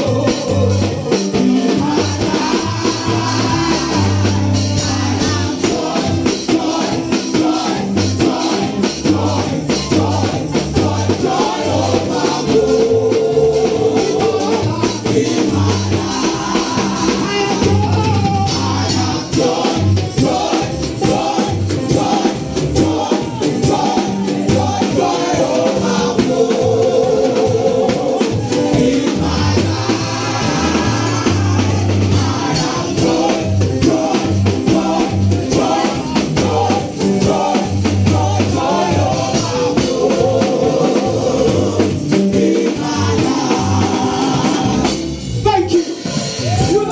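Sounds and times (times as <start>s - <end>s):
repeating bass line: 0.0s - 45.5s
backing singers: 0.0s - 46.9s
band playing a steady beat: 0.0s - 46.9s.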